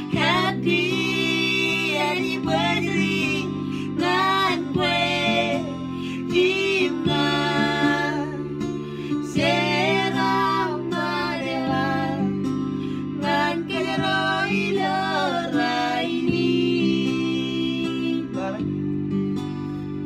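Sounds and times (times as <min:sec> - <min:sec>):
woman and man singing: 0:00.0 - 0:12.4, 0:13.0 - 0:18.7
sustained instrumental chords: 0:00.0 - 0:20.0.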